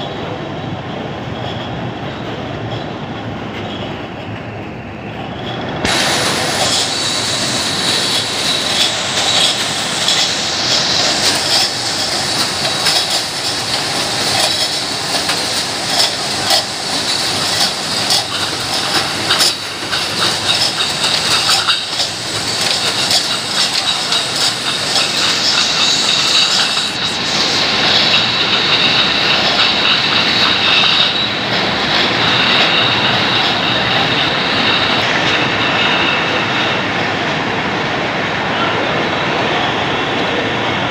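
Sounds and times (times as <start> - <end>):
steady high whine: 0.0 - 40.9.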